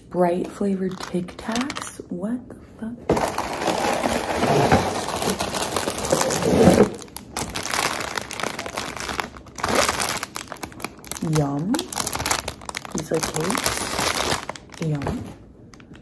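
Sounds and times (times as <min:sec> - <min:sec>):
plastic packaging crinkling: 0:00.7 - 0:02.0, 0:03.1 - 0:16.0.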